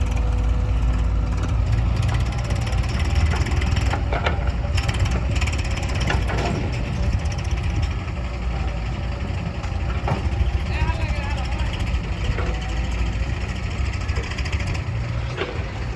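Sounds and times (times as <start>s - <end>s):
tractor diesel engine running: 0.0s - 15.9s.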